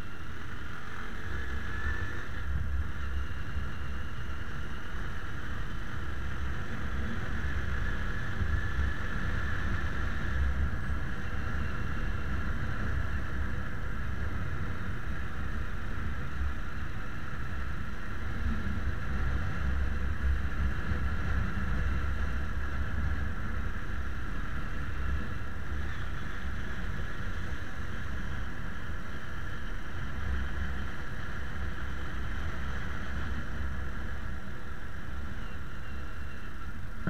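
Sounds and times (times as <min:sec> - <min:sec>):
motorcycle engine and road noise: 0:00.0 - 0:37.0.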